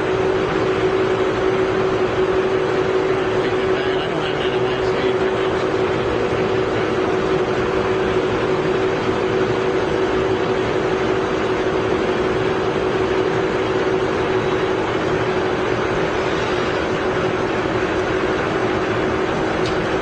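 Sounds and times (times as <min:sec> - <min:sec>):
lathe running with constant whine: 0:00.0 - 0:20.0.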